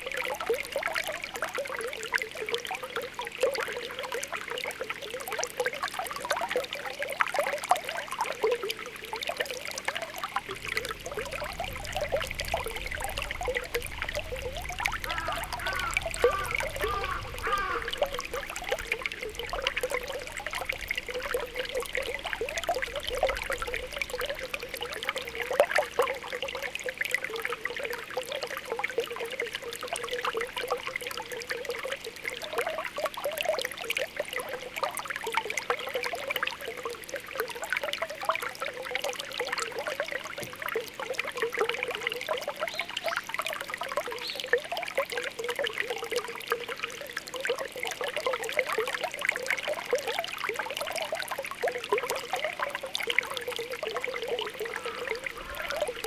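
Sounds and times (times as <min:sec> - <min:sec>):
spring water bubbling: 0:00.0 - 0:56.0.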